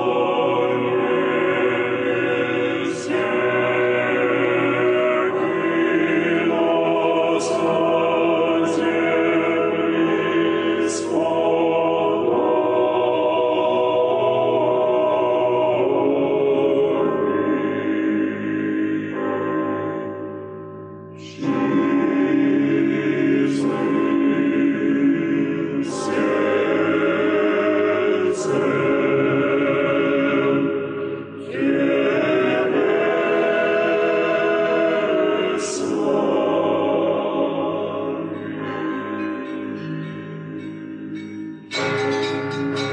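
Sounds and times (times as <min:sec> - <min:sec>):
choir singing held chords: 0:00.0 - 0:42.9.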